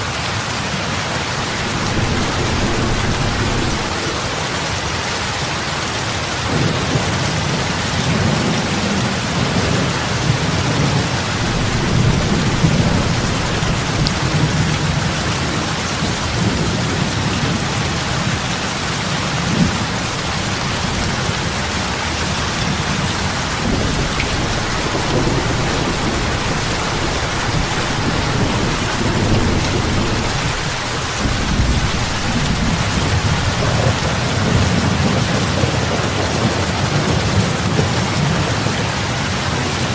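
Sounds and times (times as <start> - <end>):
heavy rain on lake water: 0.0 - 39.9.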